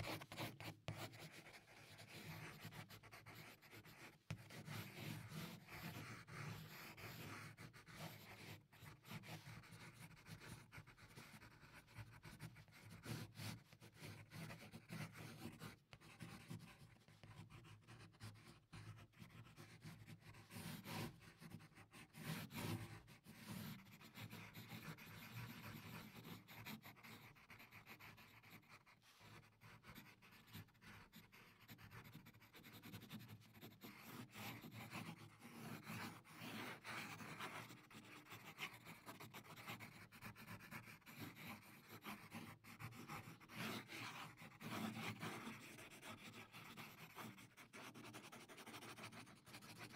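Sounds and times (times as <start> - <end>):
pencil scratching on paper: 0.0 - 49.9.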